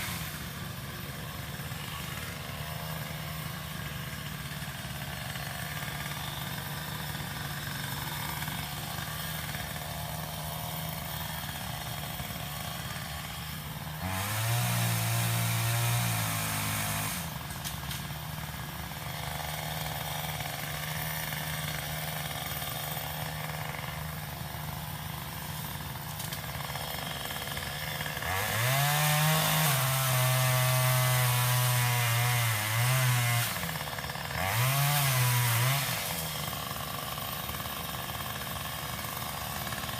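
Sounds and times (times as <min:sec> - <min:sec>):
pole saw engine idling and revving: 0:00.0 - 0:39.9.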